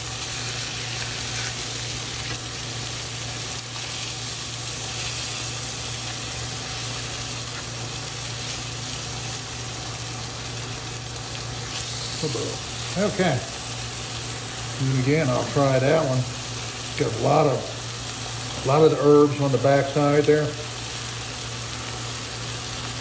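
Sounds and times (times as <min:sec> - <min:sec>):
fish sizzling in a skillet: 0:00.0 - 0:23.0.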